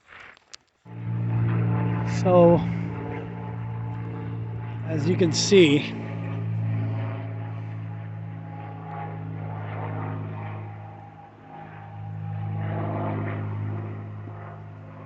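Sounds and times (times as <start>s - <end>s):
engine drone: 0.8s - 15.0s.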